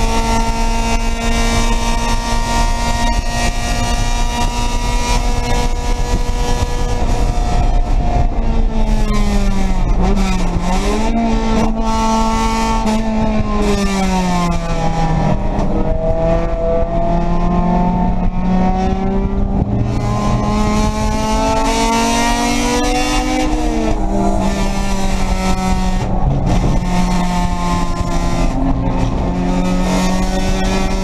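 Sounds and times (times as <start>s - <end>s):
race car engine running hard: 0.0s - 31.0s
road and wind noise: 0.0s - 31.0s.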